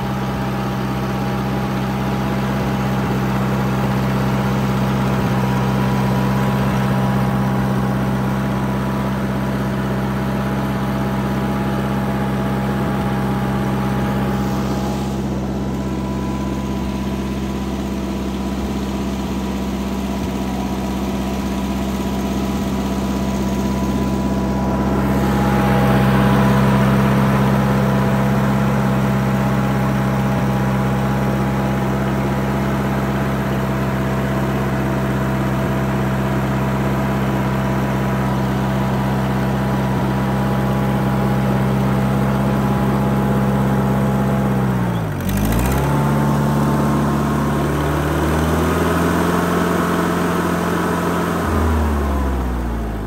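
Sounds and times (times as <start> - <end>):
stump grinder engine running: 0.0 - 53.0.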